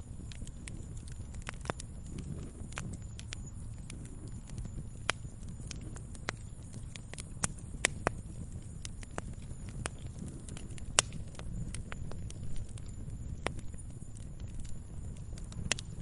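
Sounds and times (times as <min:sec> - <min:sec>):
campfire crackling and popping: 0:00.0 - 0:16.0
low steady rumble: 0:00.0 - 0:16.0.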